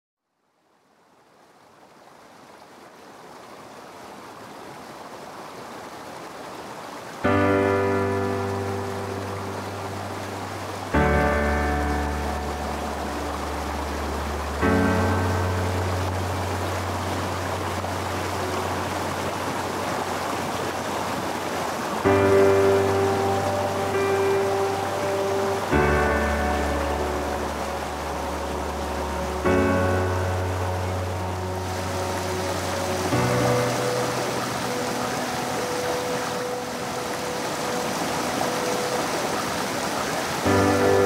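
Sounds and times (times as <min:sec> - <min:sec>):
flowing water rushing: 0:00.5 - 0:41.0.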